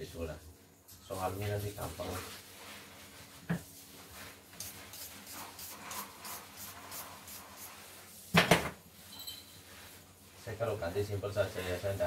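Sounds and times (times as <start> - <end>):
light scraping strokes: 1.0 - 8.2, 9.0 - 12.0.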